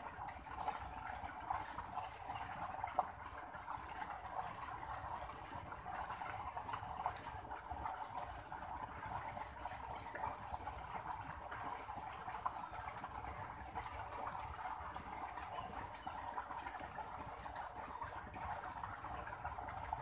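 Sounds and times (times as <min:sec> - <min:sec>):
water trickling in a channel: 0:00.0 - 0:20.0.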